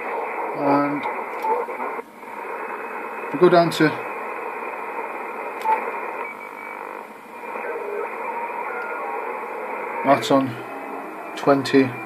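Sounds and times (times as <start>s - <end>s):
radio band hiss: 0.0s - 12.0s
faint radio whistles: 0.1s - 3.2s, 4.3s - 12.0s.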